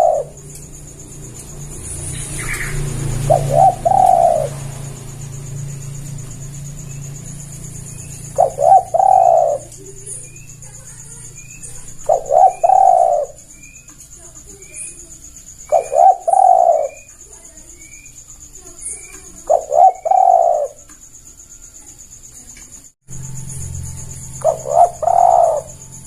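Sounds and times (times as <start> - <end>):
dove cooing: 0.0 - 20.9, 24.3 - 26.0.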